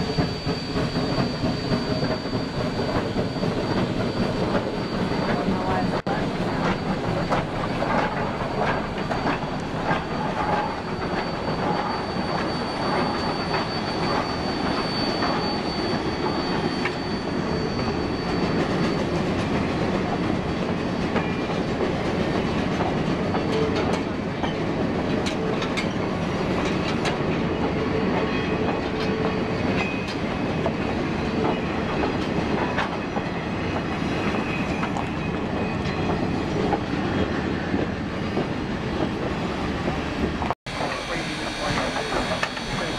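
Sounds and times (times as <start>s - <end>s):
steam locomotive passing: 0.0s - 42.9s.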